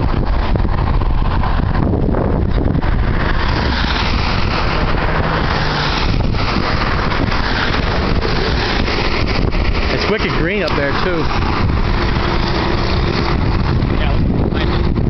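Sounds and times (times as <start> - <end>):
car driving noise: 0.0 - 15.0.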